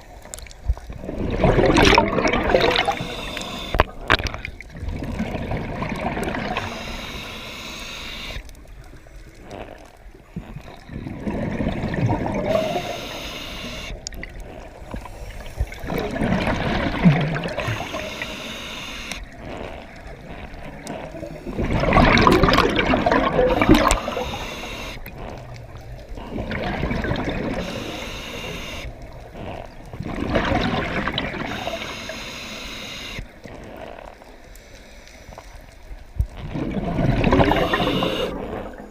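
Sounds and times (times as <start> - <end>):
water bubbling and gurgling: 0.0 - 38.9.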